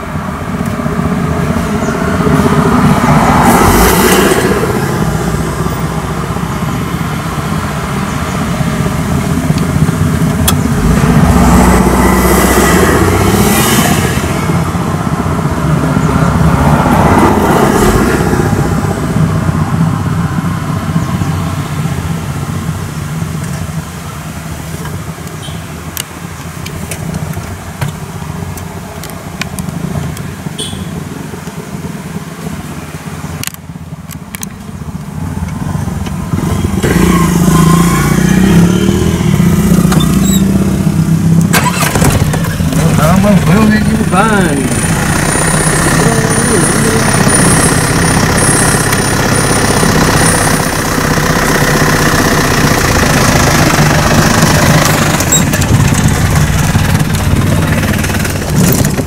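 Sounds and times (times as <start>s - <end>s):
vehicle engines passing: 0.0s - 59.0s.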